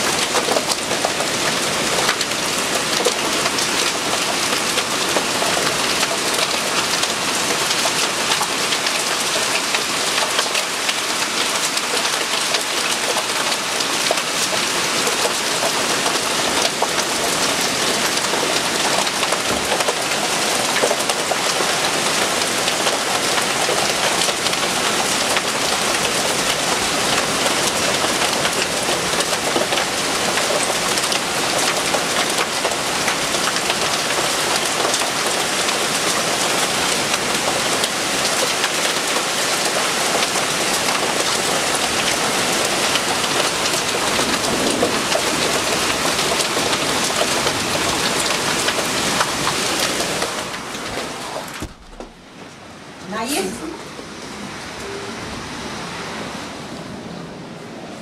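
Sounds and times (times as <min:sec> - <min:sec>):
heavy rain and hail: 0:00.0 - 0:54.8.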